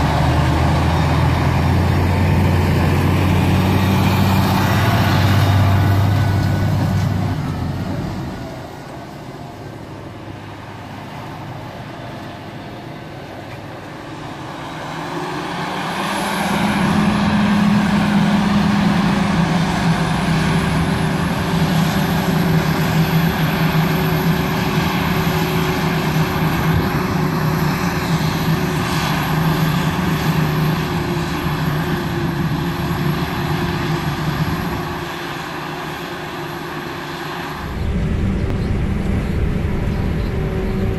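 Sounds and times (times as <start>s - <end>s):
forage harvester engine droning: 0.0s - 40.9s
tractor engine: 0.0s - 40.9s.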